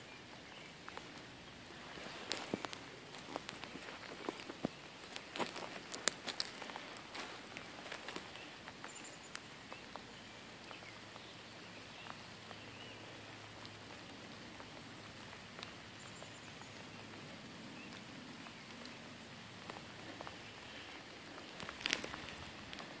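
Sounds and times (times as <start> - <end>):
soft hiss: 0.0 - 23.0.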